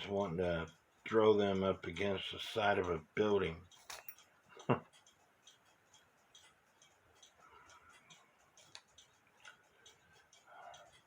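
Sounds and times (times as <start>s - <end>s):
faint clicks of clock parts: 0.0s - 11.0s.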